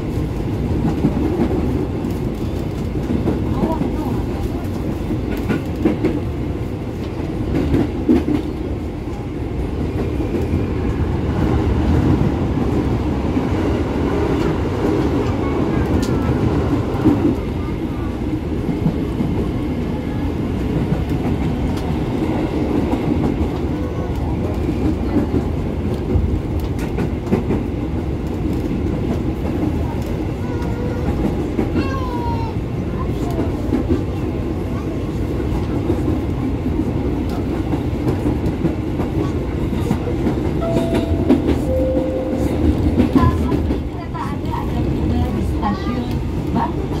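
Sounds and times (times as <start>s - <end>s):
train rumbling inside carriage: 0.0s - 47.0s.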